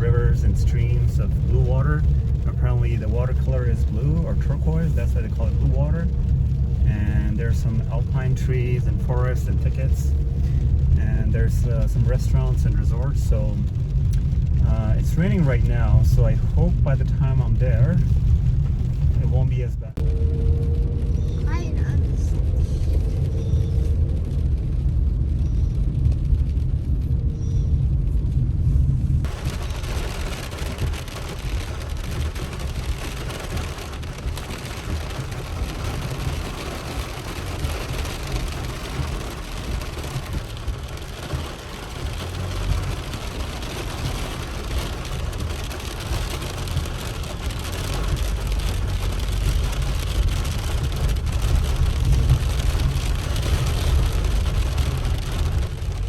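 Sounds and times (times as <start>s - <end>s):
steady hiss of wet road: 0.0s - 20.3s, 29.3s - 56.0s
low road rumble: 0.0s - 56.0s.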